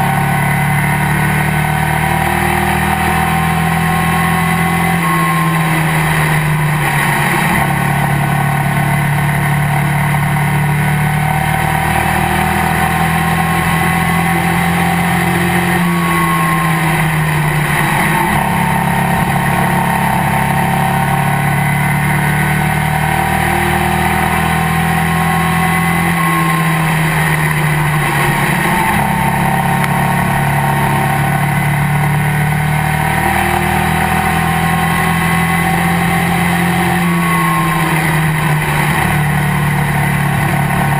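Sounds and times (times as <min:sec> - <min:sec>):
race car engine running hard: 0:00.0 - 0:40.9
wind and road noise: 0:00.0 - 0:40.9.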